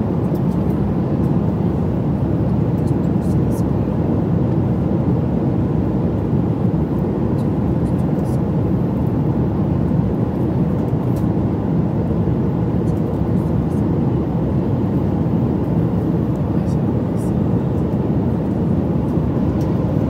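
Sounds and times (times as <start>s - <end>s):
airliner cabin drone: 0.0s - 20.0s.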